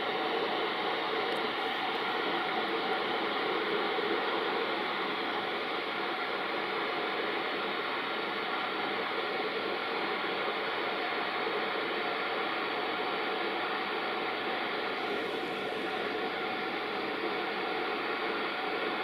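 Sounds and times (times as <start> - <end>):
faint steady tones: 0.0 - 19.0.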